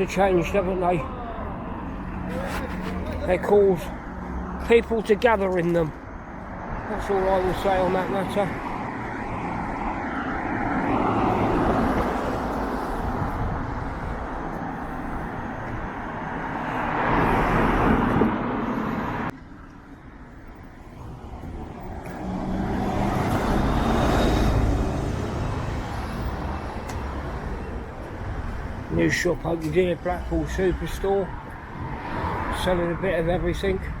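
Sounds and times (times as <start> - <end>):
cars passing close by: 0.0 - 34.0.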